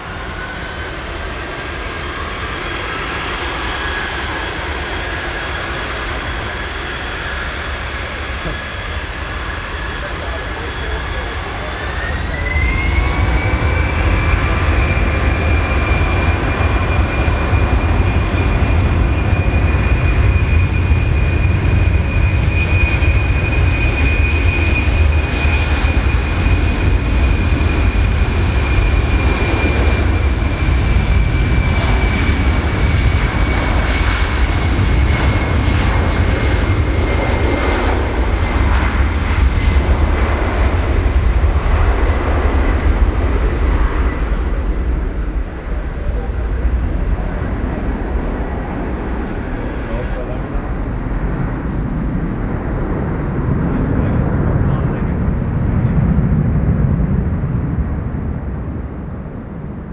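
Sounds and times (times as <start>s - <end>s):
deep engine rumble: 0.0s - 59.9s
jet engines high whine: 0.0s - 59.9s.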